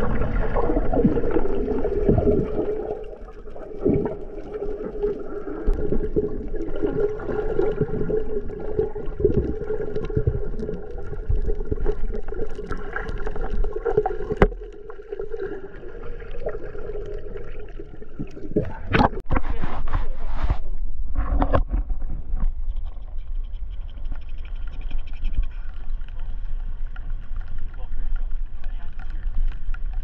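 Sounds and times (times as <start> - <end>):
underwater bubbles and gurgling: 0.0 - 19.9, 21.2 - 30.0.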